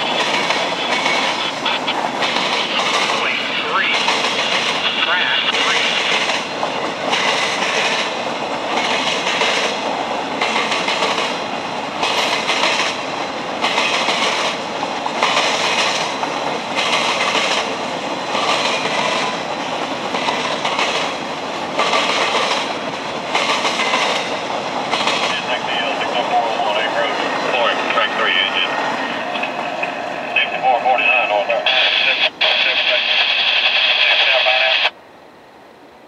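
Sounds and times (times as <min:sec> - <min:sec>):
train wheels clattering over crossing: 0:00.0 - 0:30.5.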